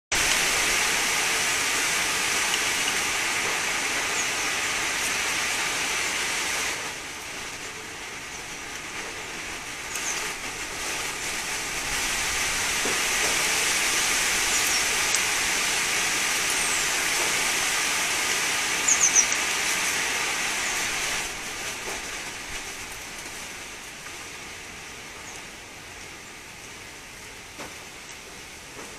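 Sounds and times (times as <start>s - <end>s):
wind through trees: 0.1s - 28.9s.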